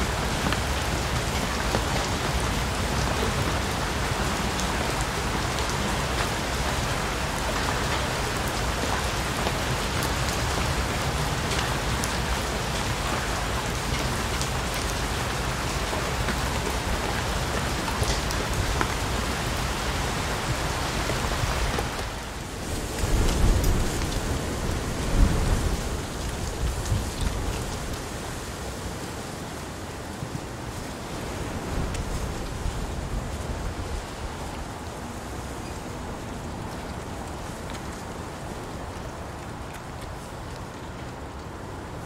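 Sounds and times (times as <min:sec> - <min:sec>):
heavy rain on leaves: 0:00.0 - 0:42.0.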